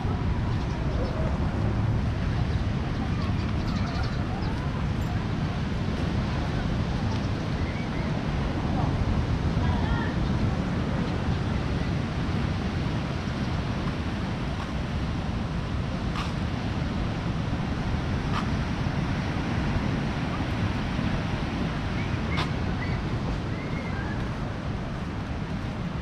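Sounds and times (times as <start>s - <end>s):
wind on microphone: 0.0s - 26.0s
ocean surf washing on beach: 4.2s - 26.0s.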